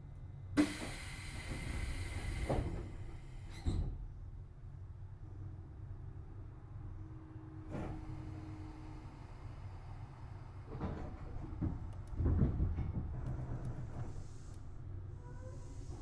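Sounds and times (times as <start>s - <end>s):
train interior rumble: 0.5s - 16.0s.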